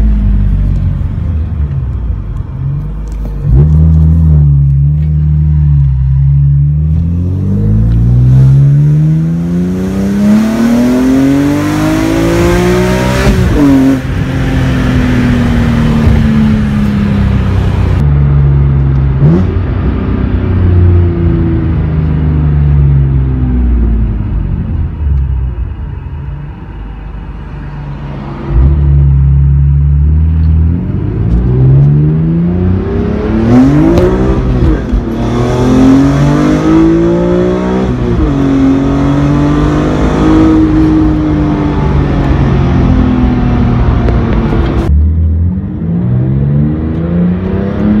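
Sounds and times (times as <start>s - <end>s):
car engine revving: 2.8s - 24.8s, 27.7s - 48.0s.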